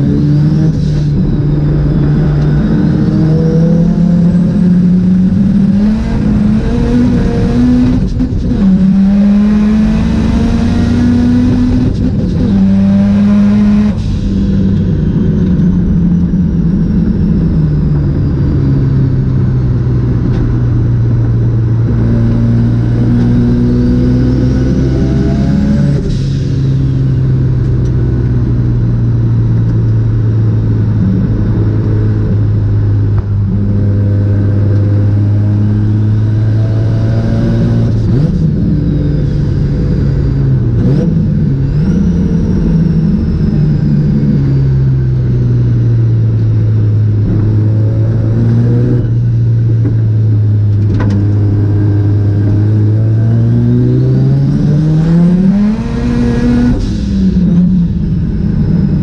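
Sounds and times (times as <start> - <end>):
rotary engine running hard: 0.0 - 59.0.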